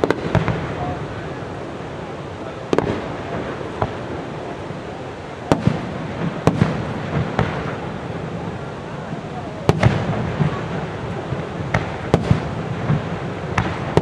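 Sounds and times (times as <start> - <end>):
faint fireworks pops: 0.0 - 1.4, 2.5 - 14.0
fireworks bursting: 0.0 - 14.0
steady background noise: 0.0 - 14.0.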